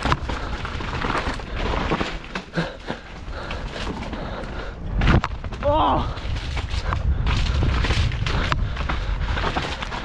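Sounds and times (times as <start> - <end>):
bike rattling and knocking: 0.0 - 10.0
tyres rolling over dirt: 0.0 - 10.0
wind rumbling on microphone: 0.0 - 10.0.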